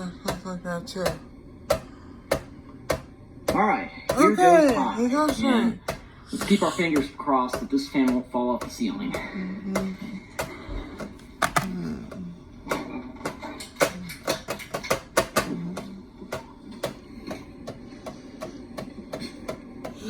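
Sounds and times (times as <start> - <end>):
ceiling fan wobbling: 0.0 - 20.0.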